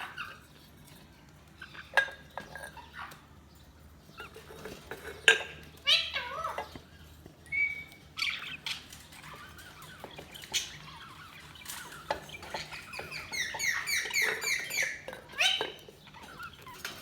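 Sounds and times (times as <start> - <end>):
budgerigars chirping: 0.0 - 0.7, 1.5 - 4.8, 5.8 - 17.0.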